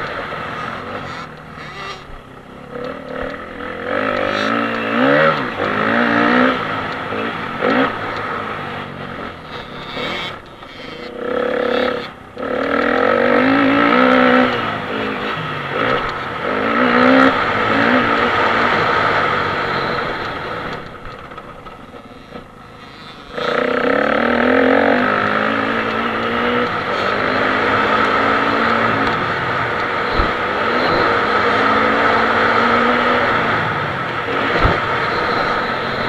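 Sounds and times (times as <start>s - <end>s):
dirt bike engine accelerating: 0.0s - 36.0s.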